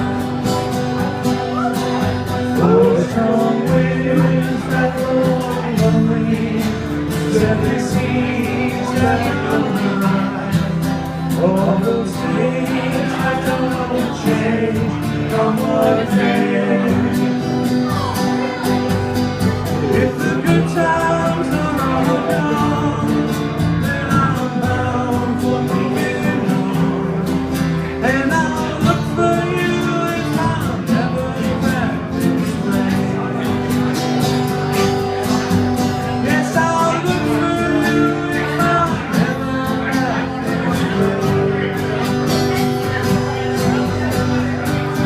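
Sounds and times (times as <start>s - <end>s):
acoustic guitar strumming: 0.0s - 45.0s
person singing: 1.0s - 45.0s.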